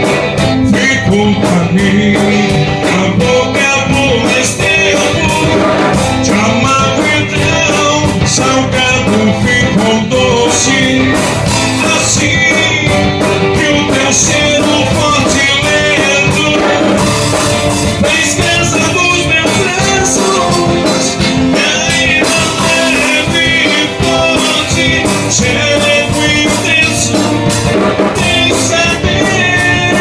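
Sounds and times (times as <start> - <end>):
acoustic guitar strumming: 0.0 - 30.0
drum kit beat: 0.0 - 30.0
man singing: 0.0 - 30.0.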